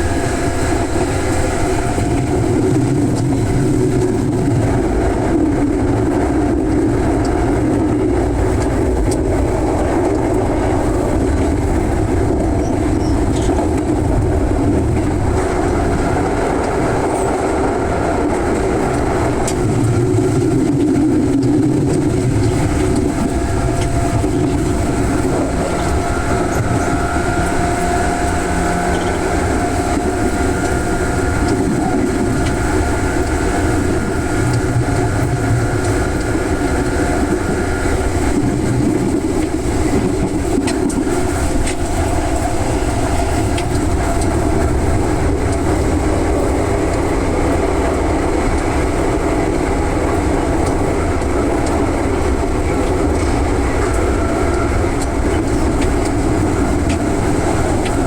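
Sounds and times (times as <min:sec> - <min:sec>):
faint train whining: 0:00.0 - 0:58.0
train wheels rumbling on rail: 0:00.0 - 0:58.0.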